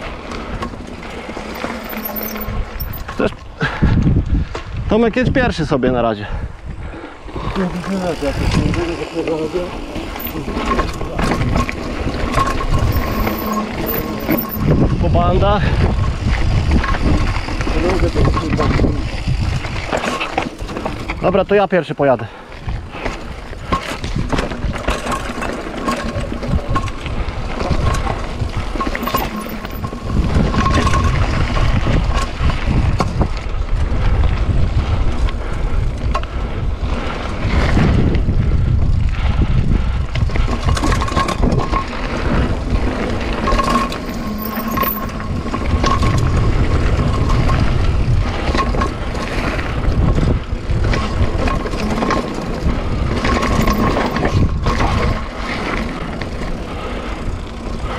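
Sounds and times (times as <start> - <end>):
bike rattling over bumps: 0.0 - 6.0, 6.6 - 57.9
wind noise on microphone: 0.0 - 21.6, 22.3 - 57.9.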